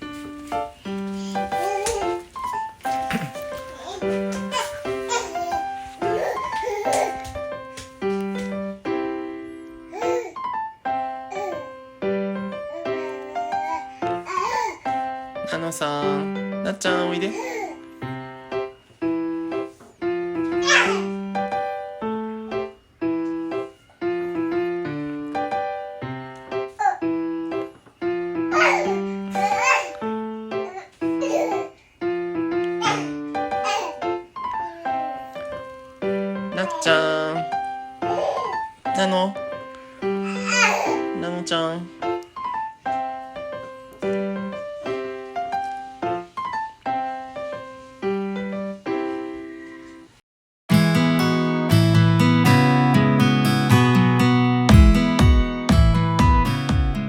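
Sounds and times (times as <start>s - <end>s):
piano melody: 0.0s - 57.0s.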